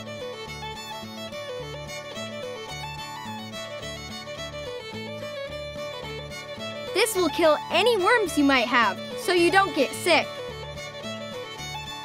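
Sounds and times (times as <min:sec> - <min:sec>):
fiddle playing lively melody: 0:00.0 - 0:12.0.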